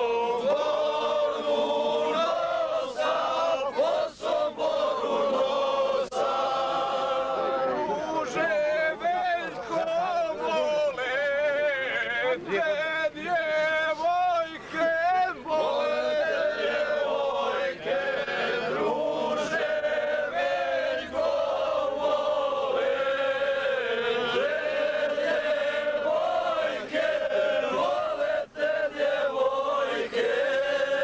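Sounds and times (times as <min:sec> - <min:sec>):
men singing long held notes: 0:00.0 - 0:31.0.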